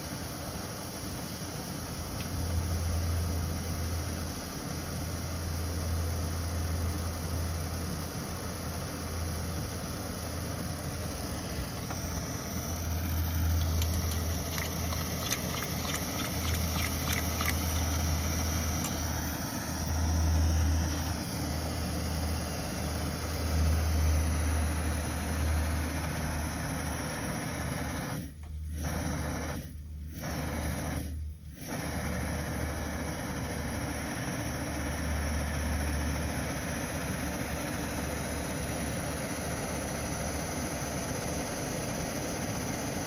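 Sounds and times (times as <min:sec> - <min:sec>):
stove burner roar: 0:00.0 - 0:43.0.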